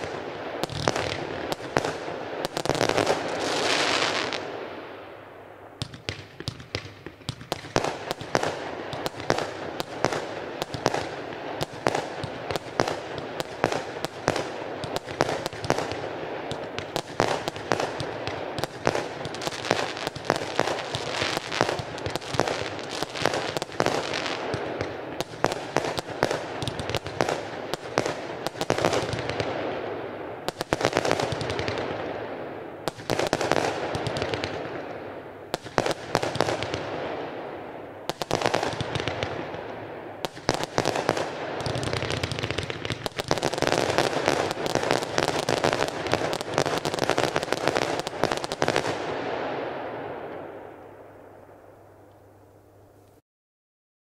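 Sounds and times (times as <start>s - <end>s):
firework crackling: 0.0s - 4.7s, 5.8s - 50.8s
fireworks launching and bursting: 0.0s - 4.9s, 5.8s - 51.6s.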